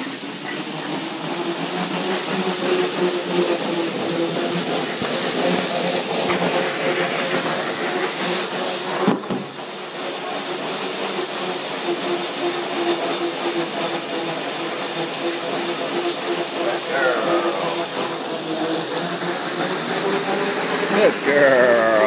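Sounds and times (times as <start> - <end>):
treadmill running with hum: 0.0 - 22.0.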